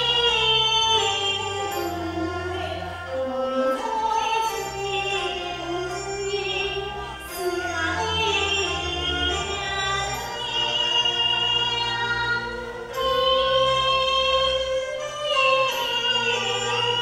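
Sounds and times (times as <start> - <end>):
opera singing: 0.0 - 17.0
traditional instrumental ensemble: 0.0 - 17.0.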